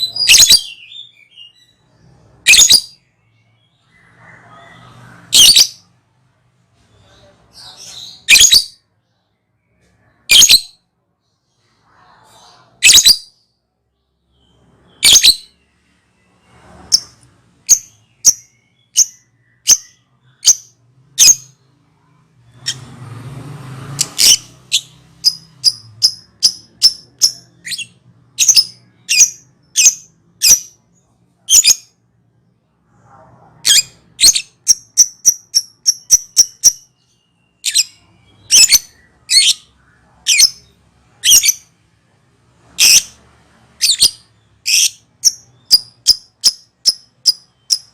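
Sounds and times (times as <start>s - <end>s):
lovebird chirping: 0.0s - 6.0s, 7.0s - 23.0s, 23.9s - 32.0s, 33.6s - 41.8s, 42.6s - 47.9s.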